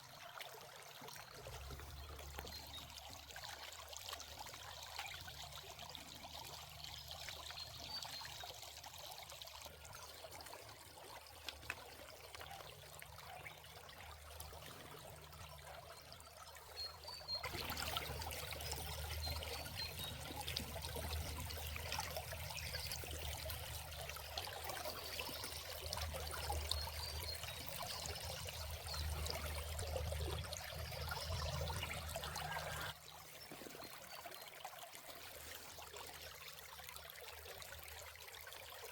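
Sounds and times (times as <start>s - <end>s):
water running and trickling: 0.0s - 38.9s.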